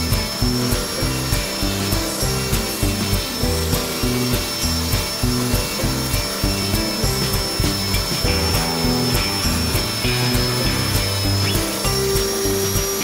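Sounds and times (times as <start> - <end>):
background music with beat: 0.0 - 13.0
die grinder carving wood: 0.0 - 13.0.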